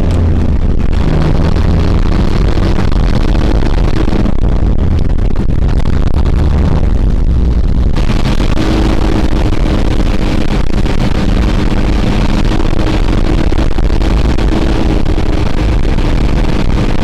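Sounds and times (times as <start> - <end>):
diesel engine running inside cab: 0.0 - 17.0.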